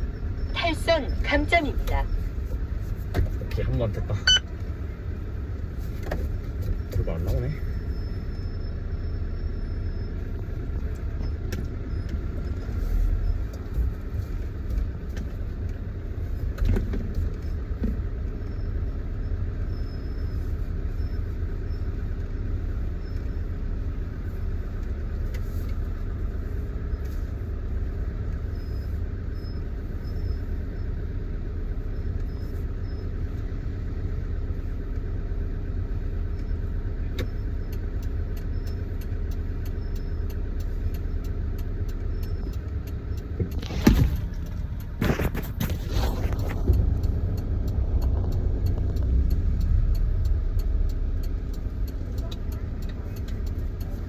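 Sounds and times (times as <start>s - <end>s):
road noise: 0.0s - 54.0s
truck engine rumble: 0.0s - 54.0s.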